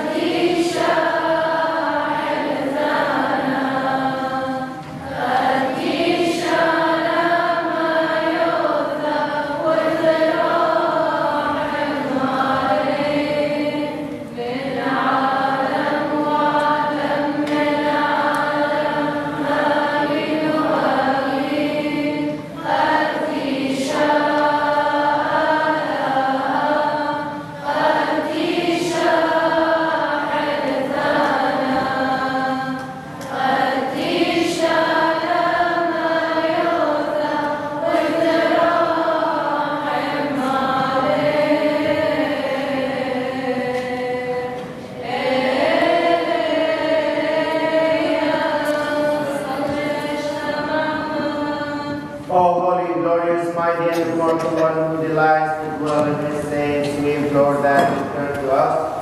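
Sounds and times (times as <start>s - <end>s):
choir singing slowly: 0.0s - 59.0s.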